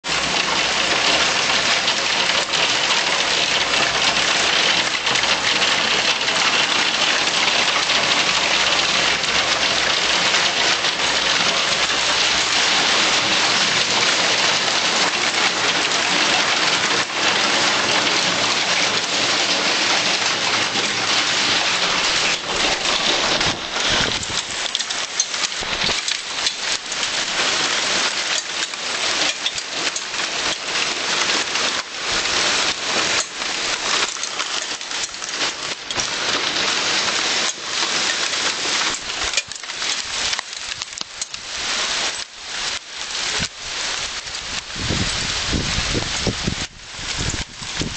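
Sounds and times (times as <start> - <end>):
hail clattering: 0.0 - 47.9.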